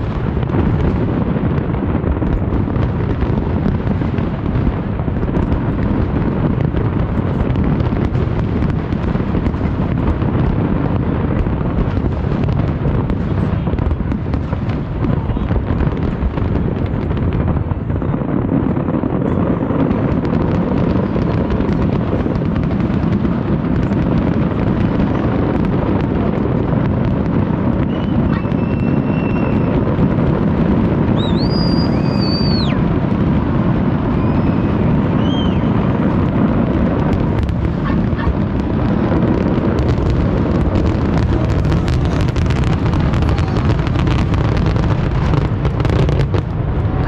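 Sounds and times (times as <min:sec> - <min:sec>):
fireworks barrage: 0:00.0 - 0:47.0.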